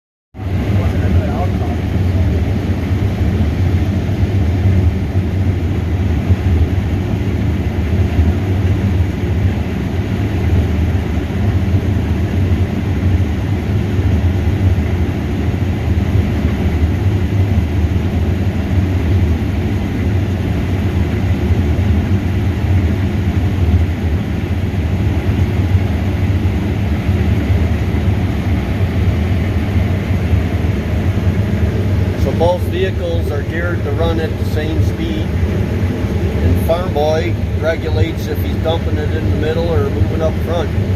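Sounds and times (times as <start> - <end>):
harvester diesel engine drone: 0.4 - 40.9.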